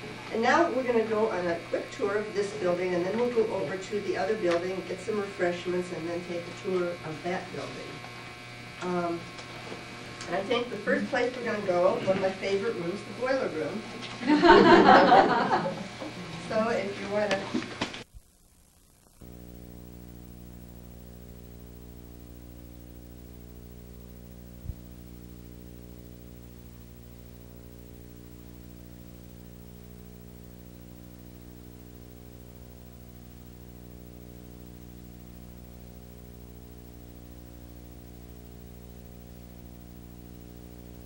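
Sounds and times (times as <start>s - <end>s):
mains hum with hiss: 0.0s - 41.0s.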